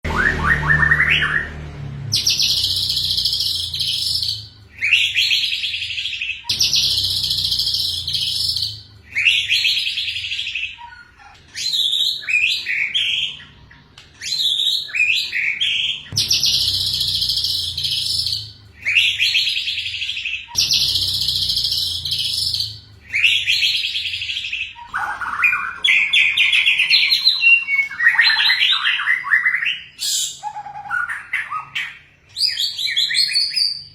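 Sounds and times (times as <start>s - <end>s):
songbird singing trilled phrases: 2.1s - 13.6s, 14.2s - 33.9s.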